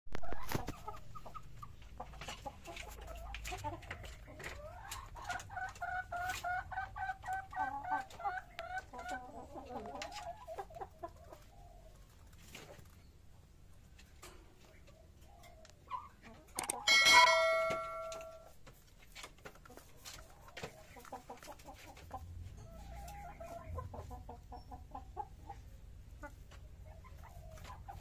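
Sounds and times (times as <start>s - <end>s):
chicken clucking: 0.1s - 28.0s.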